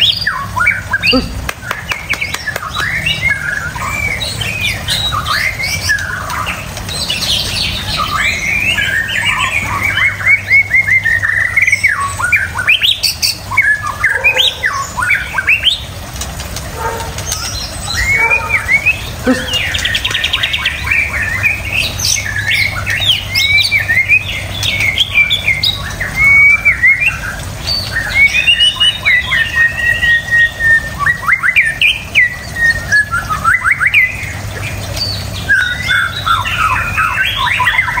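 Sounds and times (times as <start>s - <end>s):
songbird singing whistled phrases: 0.0s - 15.8s, 17.3s - 34.3s, 35.0s - 38.0s.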